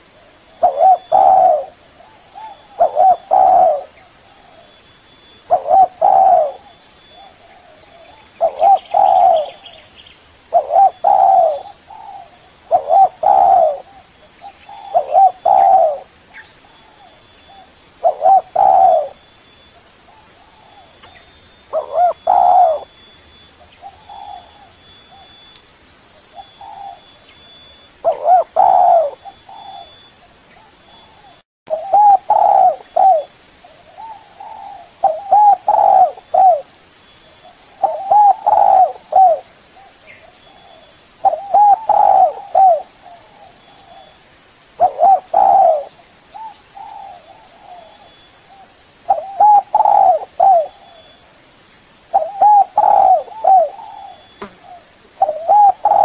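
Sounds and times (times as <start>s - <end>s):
dove cooing: 0.0s - 9.8s, 10.5s - 19.2s, 20.1s - 23.0s, 23.6s - 25.4s, 26.2s - 27.2s, 28.0s - 30.0s, 30.6s - 36.7s, 37.4s - 44.2s, 44.8s - 51.2s, 52.1s - 56.0s.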